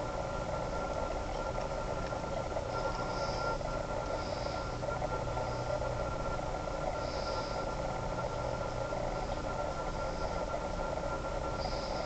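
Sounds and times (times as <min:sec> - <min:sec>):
background hum and hiss: 0:00.0 - 0:12.0
thin high whine: 0:00.0 - 0:12.0.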